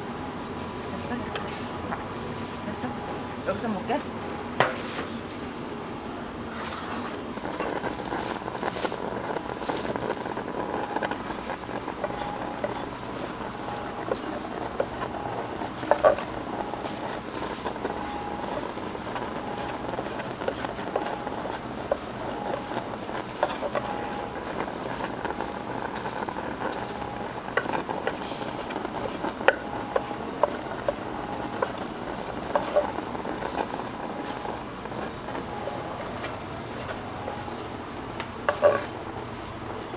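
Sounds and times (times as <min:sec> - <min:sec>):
market crowd hubbub: 0:00.0 - 0:39.9
clicks and clatter: 0:06.8 - 0:39.9.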